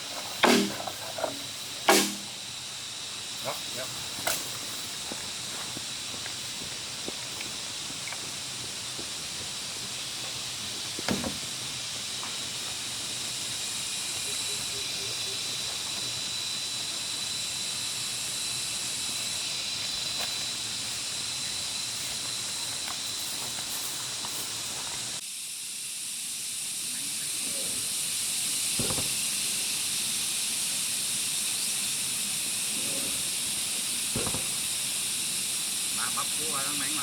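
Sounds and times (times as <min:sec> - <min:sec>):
outdoor ambience hiss: 0:00.0 - 0:37.0
thin steady whine: 0:00.0 - 0:37.0.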